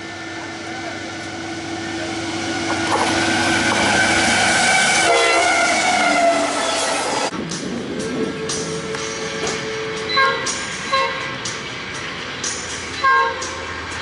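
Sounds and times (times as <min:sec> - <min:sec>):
locomotive horn chord: 0:00.0 - 0:07.3, 0:08.0 - 0:11.5, 0:12.9 - 0:13.8
diesel locomotive engine passing: 0:00.0 - 0:14.0
freight cars rumbling and rattling: 0:00.0 - 0:14.0.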